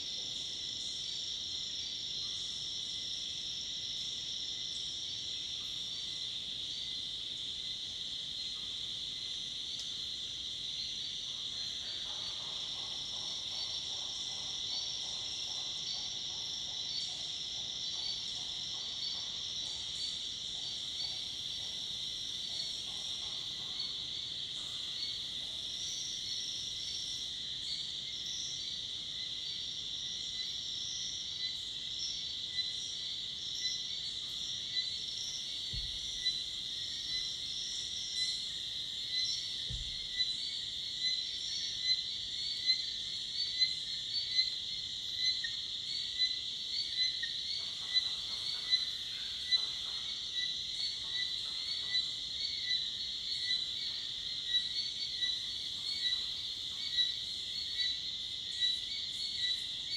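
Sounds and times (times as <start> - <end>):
low pulsing insect call: 0.0 - 59.9.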